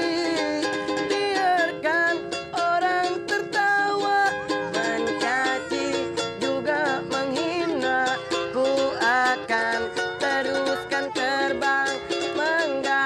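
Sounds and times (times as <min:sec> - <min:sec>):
ukulele strumming: 0:00.0 - 0:13.0
wavering bending melody: 0:00.8 - 0:13.0.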